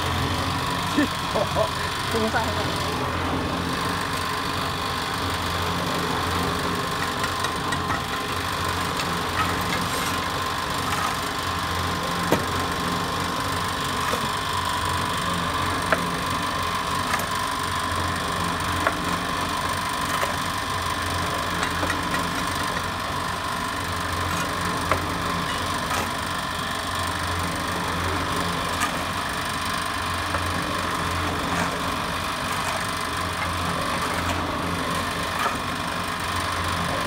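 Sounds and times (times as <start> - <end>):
mortar mixer motor humming: 0.0 - 37.0
clicks and knocks of shovelled material: 7.0 - 37.0.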